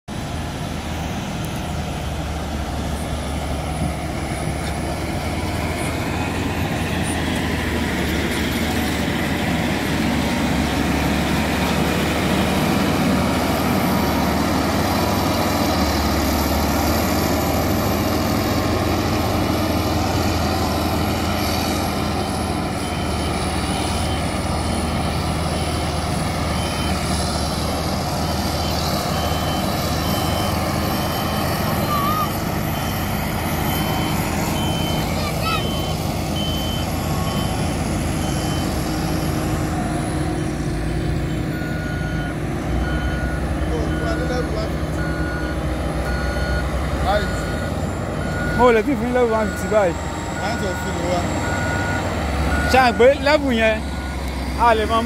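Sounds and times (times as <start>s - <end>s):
diesel engine running under load: 0.1s - 55.0s.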